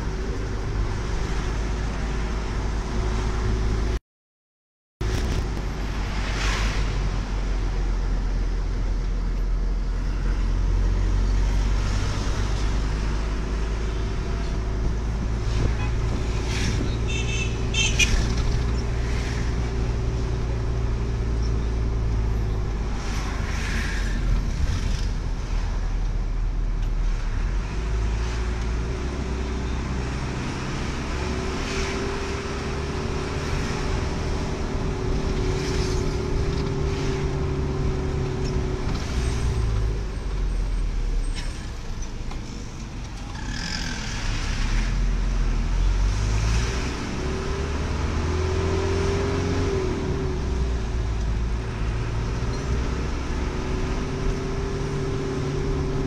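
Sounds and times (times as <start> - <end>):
vehicle engine and road noise: 0.0 - 4.0, 5.0 - 56.0.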